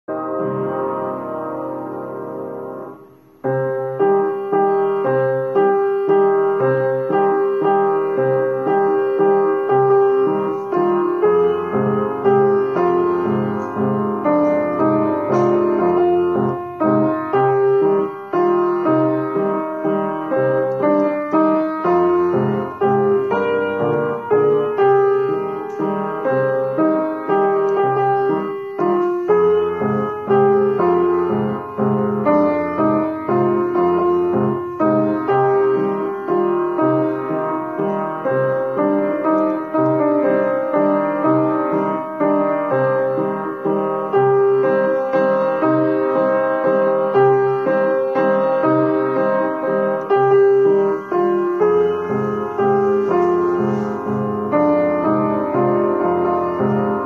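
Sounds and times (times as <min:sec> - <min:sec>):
calm piano piece: 0:00.0 - 0:57.0.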